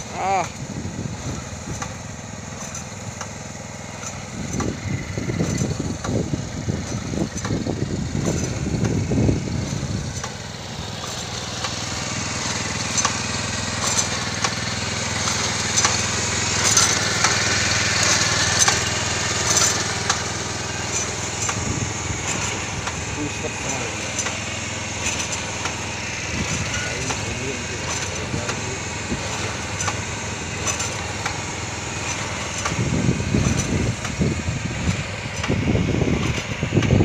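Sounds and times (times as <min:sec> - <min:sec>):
small engine running: 0:00.0 - 0:37.0
planting mechanism clicking: 0:04.0 - 0:04.8, 0:05.4 - 0:10.4, 0:11.0 - 0:37.0.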